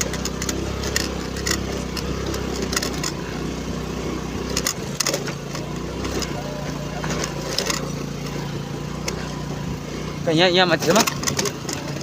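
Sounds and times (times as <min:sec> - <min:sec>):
small engine labouring: 0:00.0 - 0:12.0.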